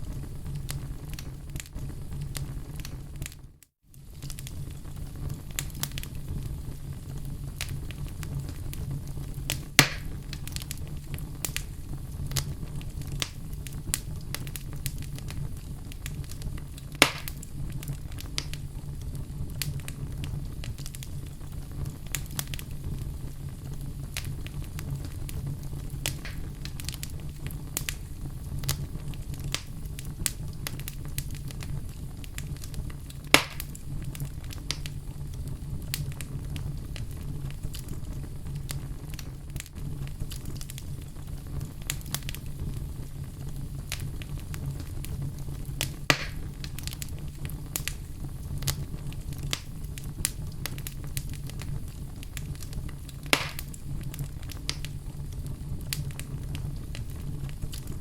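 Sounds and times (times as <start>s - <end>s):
loud fire pops: 0.0s - 58.0s
wood fire crackling: 0.0s - 58.0s.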